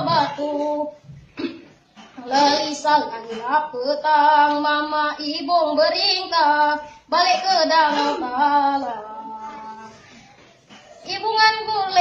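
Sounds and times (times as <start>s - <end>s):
boy singing unaccompanied: 0.0s - 1.2s, 2.1s - 12.0s.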